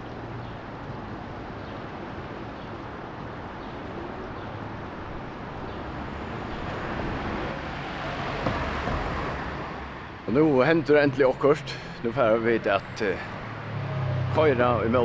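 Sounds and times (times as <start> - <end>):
outdoor background rush: 0.0 - 15.0.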